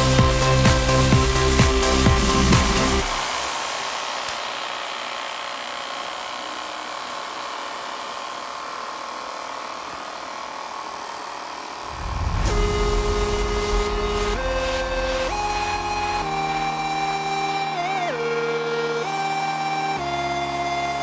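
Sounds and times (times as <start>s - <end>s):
small electric fans whirring: 0.0s - 21.0s.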